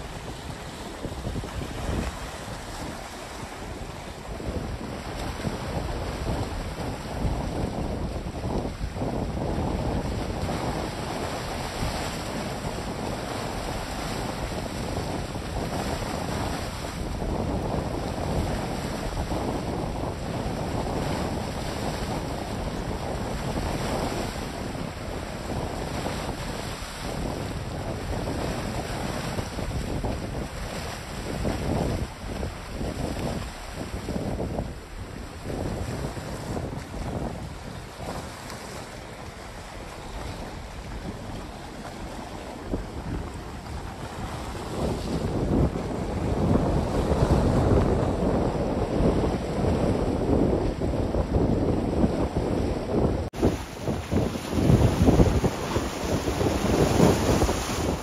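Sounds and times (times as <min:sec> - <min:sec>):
waves splashing at shore: 0:00.0 - 0:49.7, 0:51.9 - 0:58.0
wind gusting over microphone: 0:00.0 - 0:58.0.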